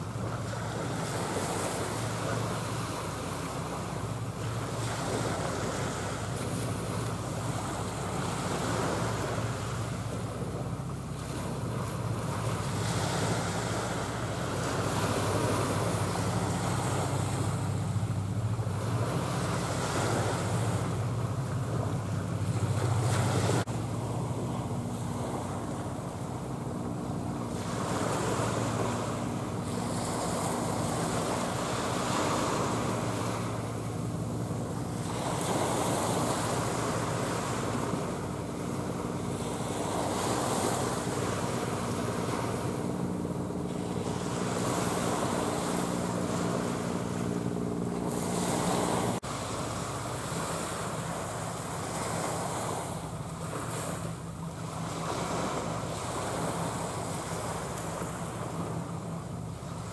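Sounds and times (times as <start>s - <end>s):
low steady drone: 0.0s - 59.9s
waves washing at shore: 0.0s - 59.9s.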